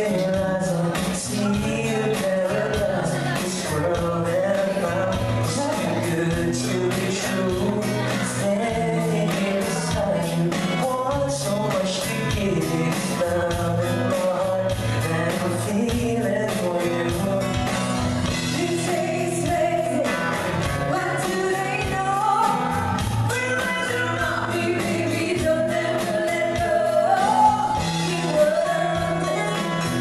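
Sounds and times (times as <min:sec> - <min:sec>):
bass line: 0:00.0 - 0:30.0
drum kit beat: 0:00.0 - 0:30.0
guitar: 0:00.0 - 0:30.0
person singing: 0:00.0 - 0:30.0.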